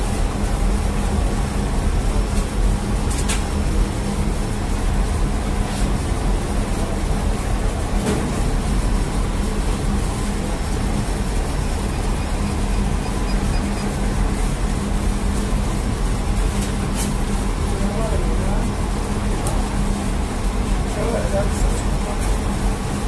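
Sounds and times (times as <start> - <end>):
dough machinery humming: 0.0 - 23.0.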